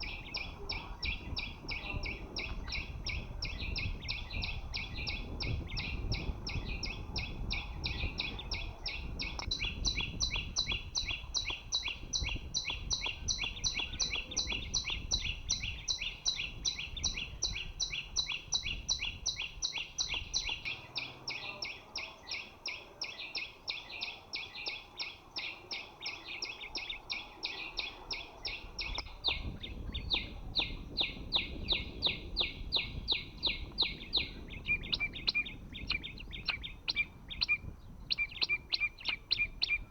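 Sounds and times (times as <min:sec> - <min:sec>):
songbird chip notes: 0:00.0 - 0:39.9.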